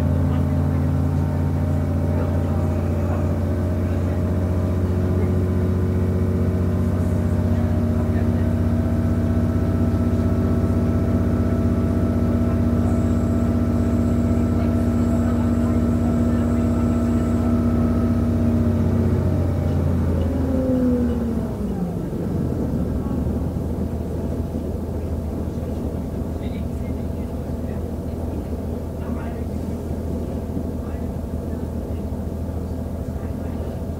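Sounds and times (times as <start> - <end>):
diesel engine running: 0.0 - 33.9
rumble of moving train: 0.0 - 33.9.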